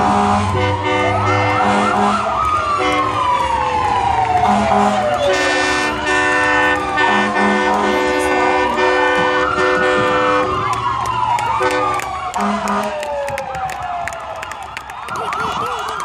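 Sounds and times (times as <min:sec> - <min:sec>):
emergency sirens wailing: 0:00.0 - 0:16.0.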